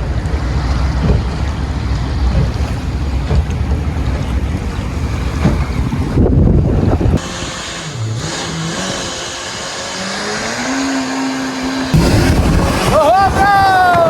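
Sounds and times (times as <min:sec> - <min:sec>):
wind noise on microphone: 0:00.0 - 0:10.0, 0:11.9 - 0:14.0
boat engine speeding up: 0:00.0 - 0:14.0.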